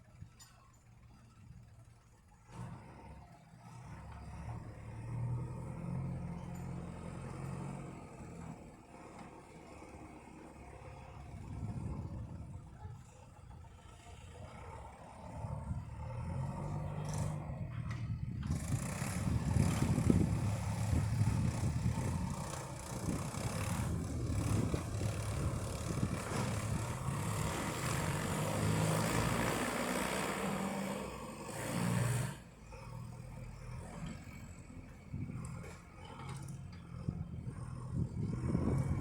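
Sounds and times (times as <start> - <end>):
tractor engine under load: 0.0 - 39.0.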